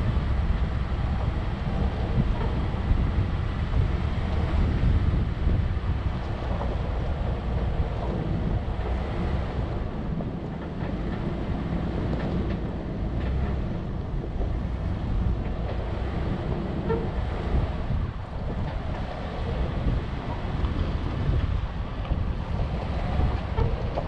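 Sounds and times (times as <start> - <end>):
vehicle rumbling on dirt trail: 0.0 - 24.0
wind on microphone: 0.0 - 24.0.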